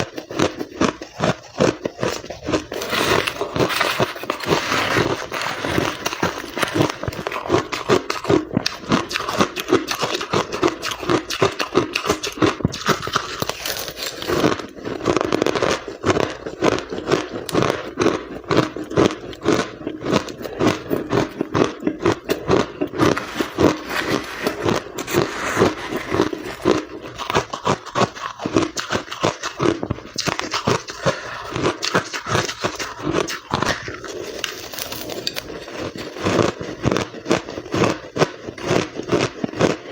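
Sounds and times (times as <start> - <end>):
chewing and crunching ice: 0.0 - 39.9.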